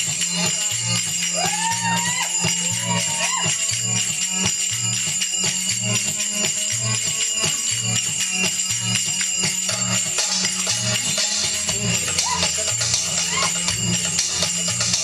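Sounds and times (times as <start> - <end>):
belly dance music: 0.0 - 15.0
jingling percussion: 0.0 - 15.0.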